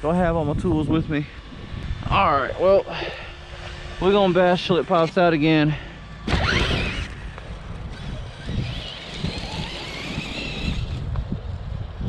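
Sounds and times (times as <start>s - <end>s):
wind rumbling on microphone: 0.0s - 4.8s, 6.3s - 12.0s
electric motor whining: 0.6s - 12.0s.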